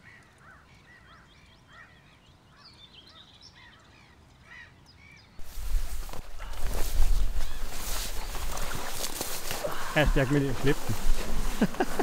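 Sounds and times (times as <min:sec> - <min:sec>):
birds calling on a lake: 0:00.0 - 0:12.0.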